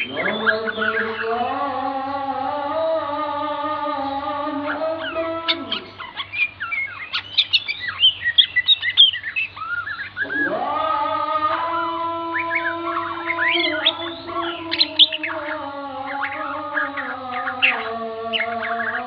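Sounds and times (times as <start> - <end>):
songbird chirping and trilling: 0.0 - 19.0.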